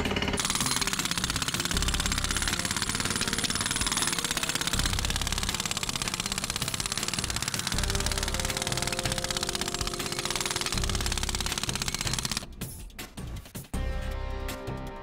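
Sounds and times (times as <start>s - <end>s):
jackhammer hammering into rock: 0.0s - 12.5s.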